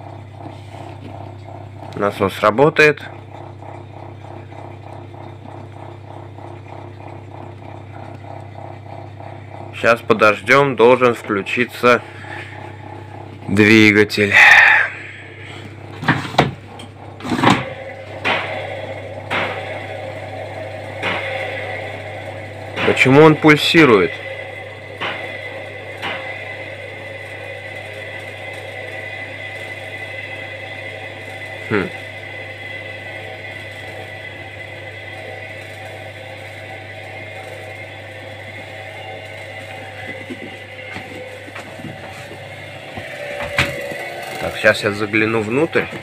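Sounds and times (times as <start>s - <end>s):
low steady hum: 0.0s - 46.0s
washing machine motor surging: 0.0s - 46.0s.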